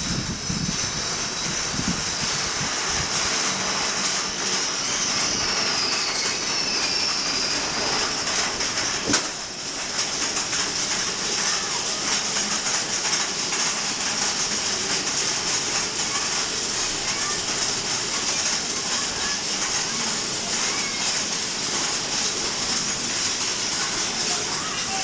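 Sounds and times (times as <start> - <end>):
high hiss: 0.0 - 25.0
roller coaster rattling rumble: 0.0 - 25.0.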